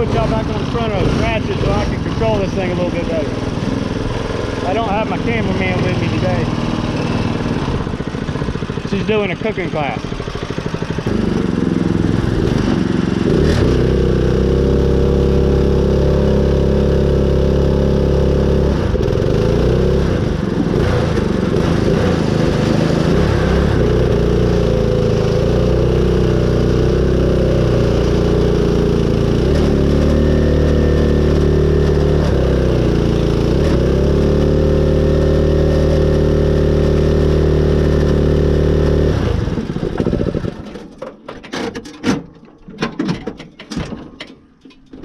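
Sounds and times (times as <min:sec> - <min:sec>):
riding mower engine revving: 0:00.0 - 0:41.0.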